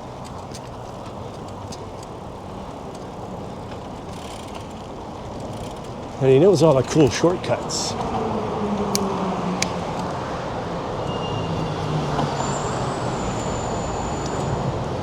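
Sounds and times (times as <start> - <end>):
low engine hum: 0.0 - 15.0
passing cars: 0.0 - 15.0.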